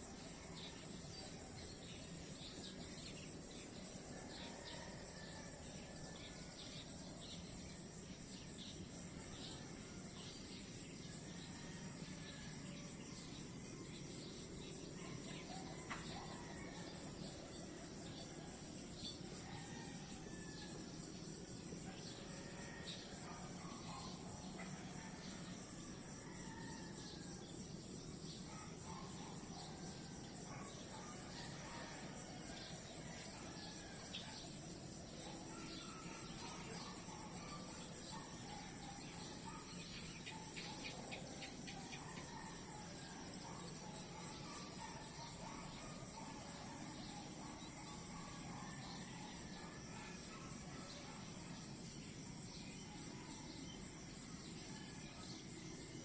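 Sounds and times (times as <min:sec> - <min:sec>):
high insect chorus: 0:00.0 - 0:56.0.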